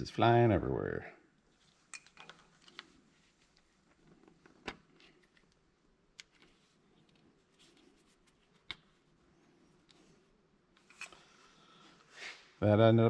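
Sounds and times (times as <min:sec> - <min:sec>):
faint handling noise: 0:01.4 - 0:12.6.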